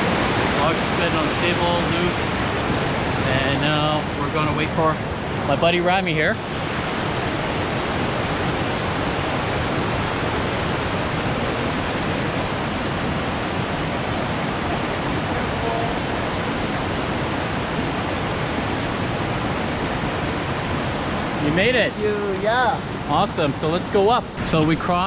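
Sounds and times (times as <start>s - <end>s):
creek rushing: 0.0s - 25.0s.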